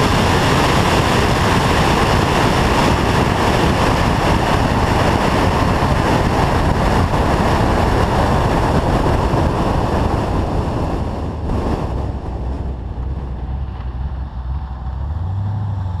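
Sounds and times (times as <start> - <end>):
low engine drone: 0.0 - 16.0
wind buffeting microphone: 0.0 - 16.0.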